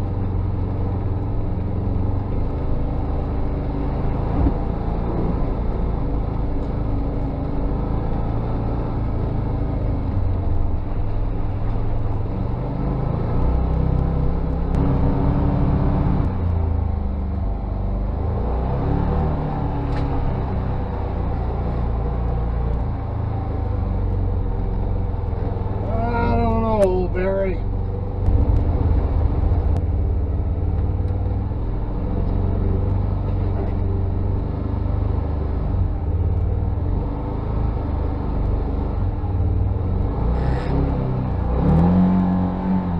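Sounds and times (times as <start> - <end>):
utility vehicle engine running: 0.0 - 42.9.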